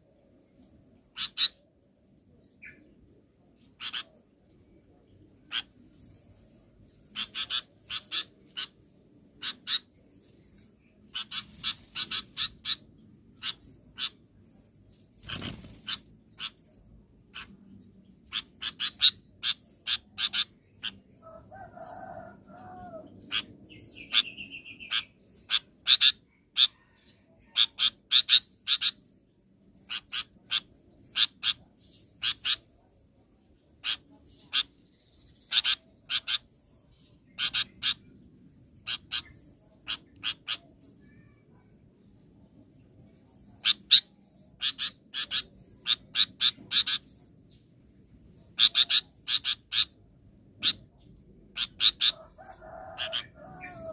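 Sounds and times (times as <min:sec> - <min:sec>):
bird chirping: 0:00.1 - 0:53.9.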